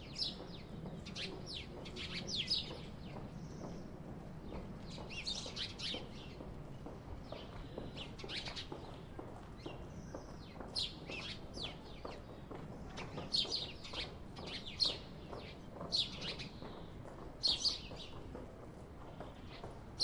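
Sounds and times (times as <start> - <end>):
small birds chirping: 0.0 - 18.3.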